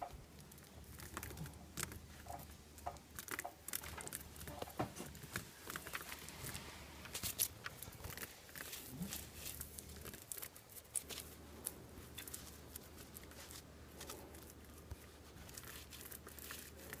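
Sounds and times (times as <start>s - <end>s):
low steady hum: 0.0s - 17.0s
small clicks and scratches: 0.0s - 17.0s.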